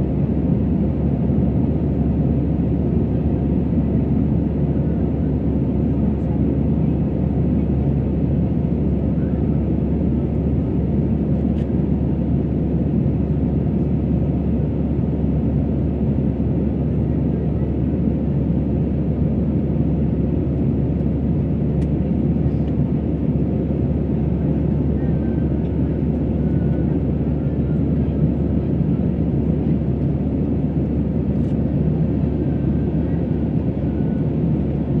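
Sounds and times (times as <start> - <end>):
airplane cabin engine rumble: 0.0 - 35.0.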